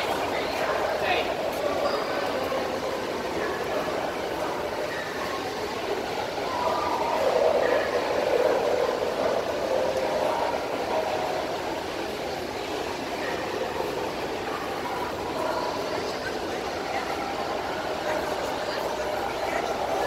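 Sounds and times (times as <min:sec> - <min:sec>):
crowd hubbub: 0:00.0 - 0:20.0.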